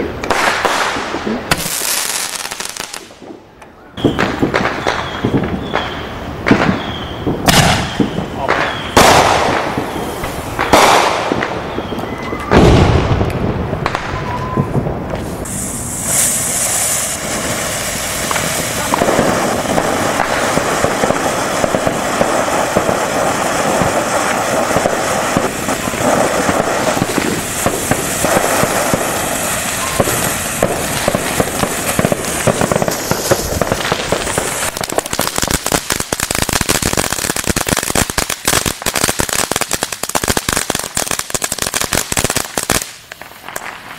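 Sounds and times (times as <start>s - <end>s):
firework crackle of rapid pops: 0.0s - 3.4s, 4.0s - 43.9s
firework bangs: 0.0s - 43.9s.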